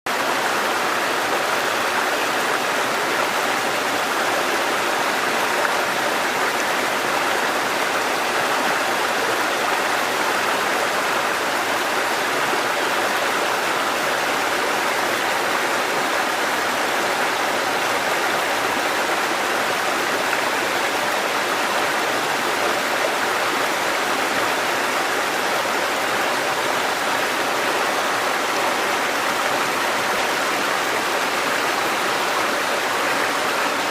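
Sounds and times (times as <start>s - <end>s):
river water rushing over rapids: 0.1s - 33.9s.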